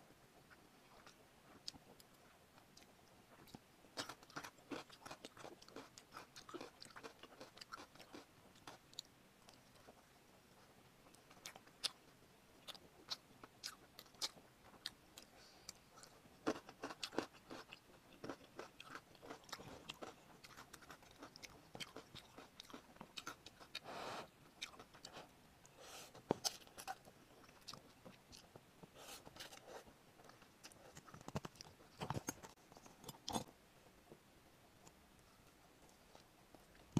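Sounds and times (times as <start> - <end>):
crunchy chewing: 0.4 - 12.0, 12.6 - 33.5.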